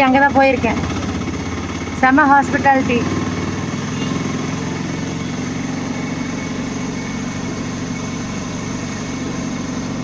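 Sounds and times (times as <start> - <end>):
small engine droning: 0.0 - 10.0.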